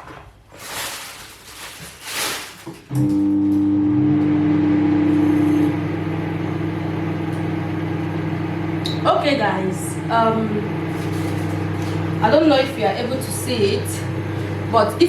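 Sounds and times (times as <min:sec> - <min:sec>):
microwave oven humming: 0:02.9 - 0:15.0.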